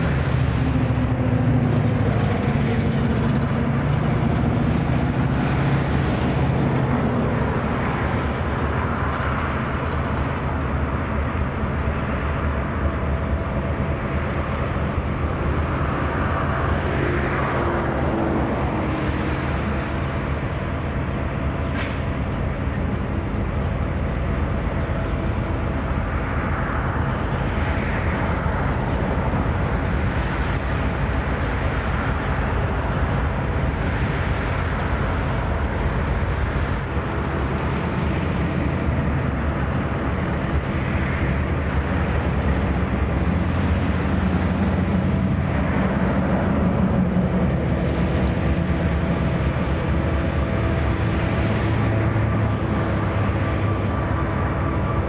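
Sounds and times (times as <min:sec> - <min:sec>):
locomotives idling: 0:00.0 - 0:55.0.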